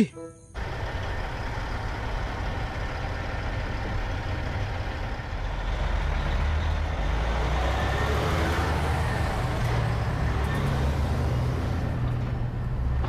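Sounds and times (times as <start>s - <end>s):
diesel truck engine rumble: 0.6s - 13.0s.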